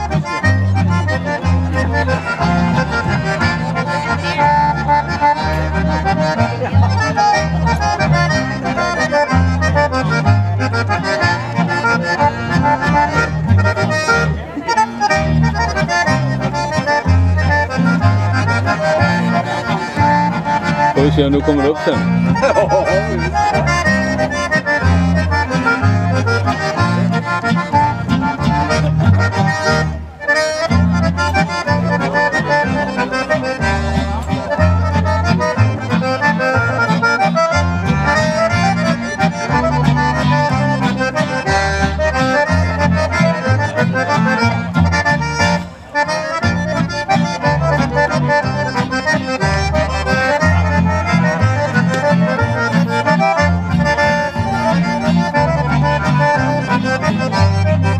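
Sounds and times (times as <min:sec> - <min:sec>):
accordions playing: 0:00.0 - 0:57.9
acoustic guitar strumming: 0:00.0 - 0:57.9
upright double bass: 0:00.0 - 0:57.9.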